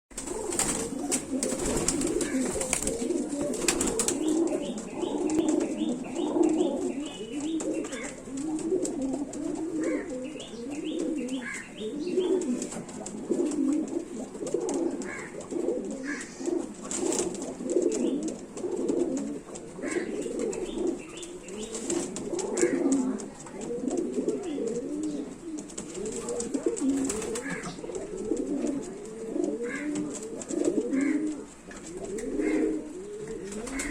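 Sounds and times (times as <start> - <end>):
pigeons cooing: 0.1 - 33.9.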